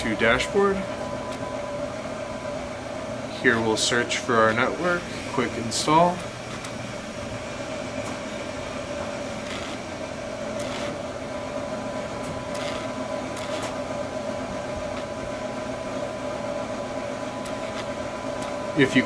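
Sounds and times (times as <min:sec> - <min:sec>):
humming room noise drone: 0:00.0 - 0:19.0.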